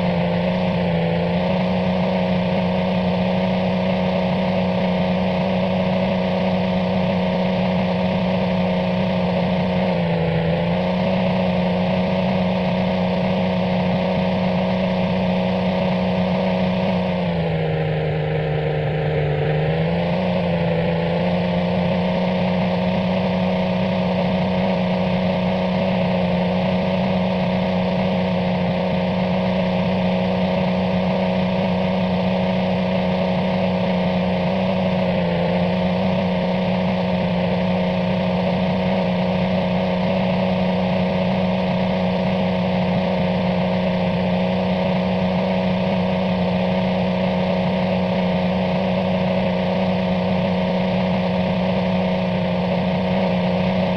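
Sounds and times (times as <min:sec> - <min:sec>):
steady motor hum: 0:00.0 - 0:53.9.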